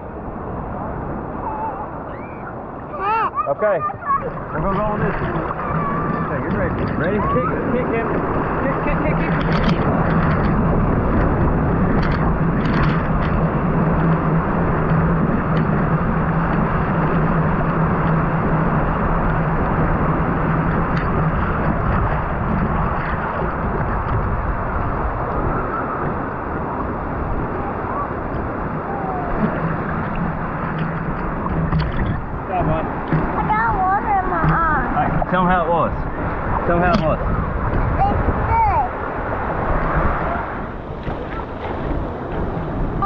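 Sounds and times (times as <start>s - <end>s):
ocean surf breaking: 0.0s - 43.0s.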